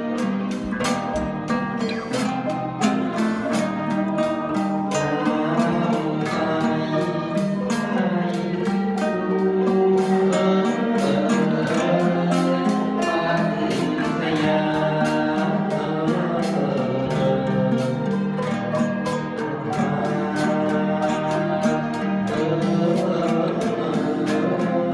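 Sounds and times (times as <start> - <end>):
man singing into a microphone: 0.0 - 24.9
plucked string ensemble: 0.0 - 24.9.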